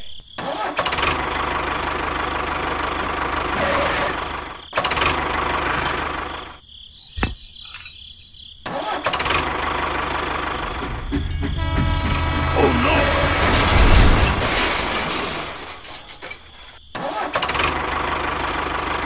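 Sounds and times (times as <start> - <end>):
tractor engine running: 0.7 - 8.3, 9.0 - 16.7, 17.6 - 19.0.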